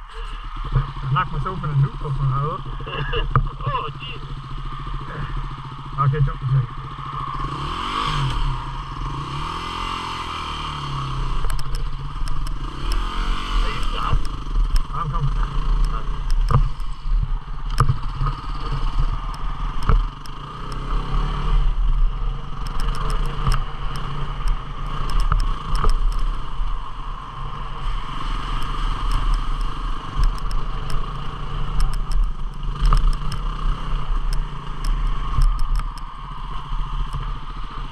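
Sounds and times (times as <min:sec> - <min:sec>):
clicks and rattles over rough trail: 0:00.0 - 0:37.9
motorcycle engine running: 0:00.0 - 0:37.9.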